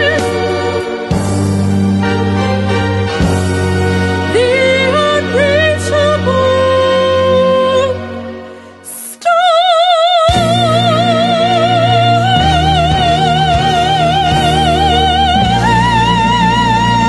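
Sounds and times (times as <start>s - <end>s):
backing music with deep bass: 0.0s - 8.6s, 10.3s - 17.0s.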